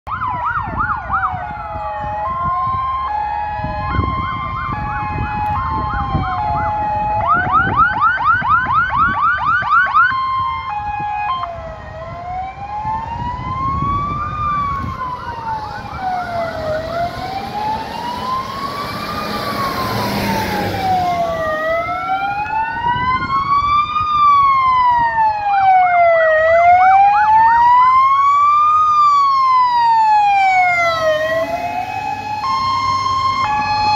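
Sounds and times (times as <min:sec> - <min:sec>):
fire engine sirens wailing: 0:00.1 - 0:33.9.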